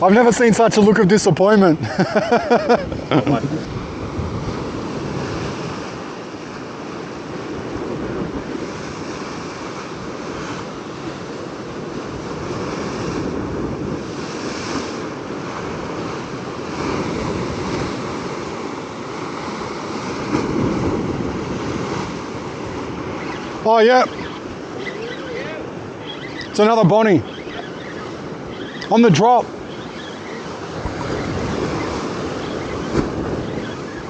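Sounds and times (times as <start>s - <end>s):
ocean surf on rock: 0.0s - 34.0s
wind on microphone: 2.4s - 34.0s.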